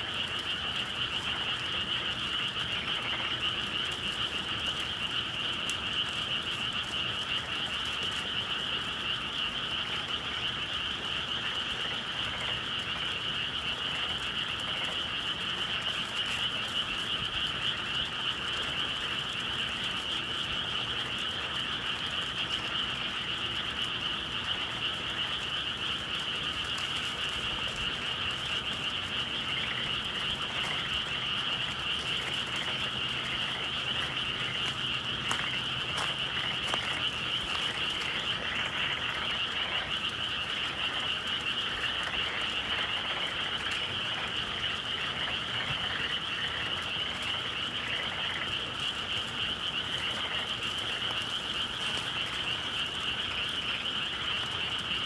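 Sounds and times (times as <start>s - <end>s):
frogs trilling: 0.0s - 55.0s.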